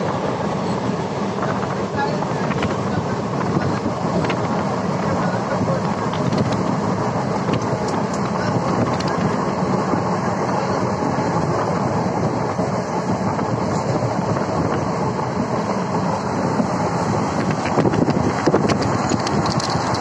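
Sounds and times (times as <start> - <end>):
rushing air: 0.0 - 20.0
train wheels rumbling on rails: 0.0 - 20.0.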